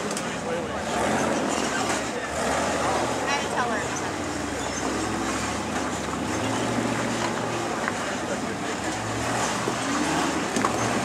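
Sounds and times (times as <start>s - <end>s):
buggy engines running: 0.0s - 11.0s
onlookers' voices: 0.0s - 11.0s.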